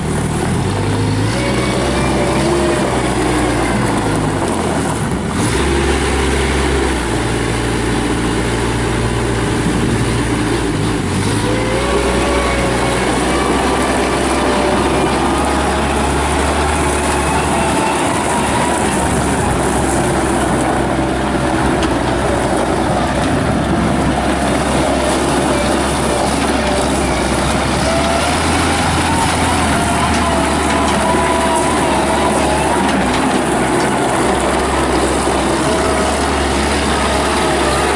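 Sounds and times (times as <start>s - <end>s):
diesel engine running: 0.0s - 37.9s
hydraulic whining tones: 0.0s - 37.9s.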